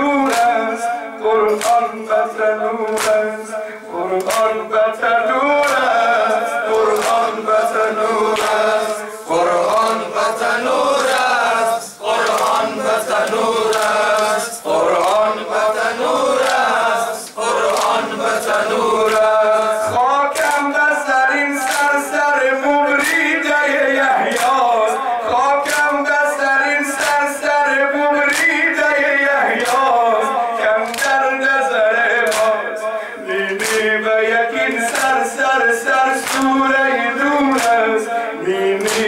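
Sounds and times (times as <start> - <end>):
men chanting: 0.0 - 39.0.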